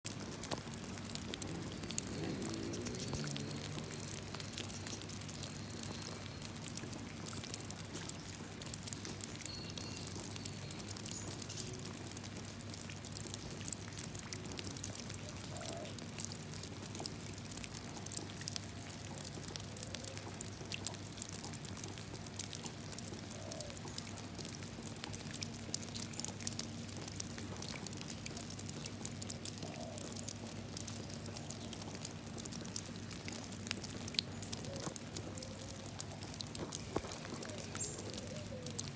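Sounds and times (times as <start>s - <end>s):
rain falling into puddle: 0.0s - 38.9s.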